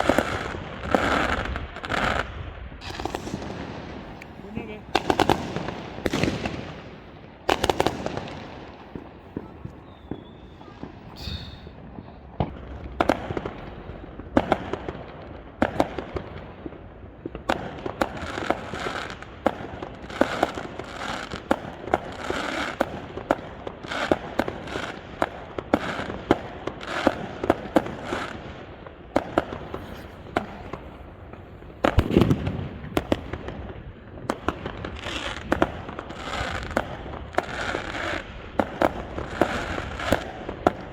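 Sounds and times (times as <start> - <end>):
dense firework crackling: 0.0 - 40.9
firework shells bursting with bangs: 0.0 - 40.9.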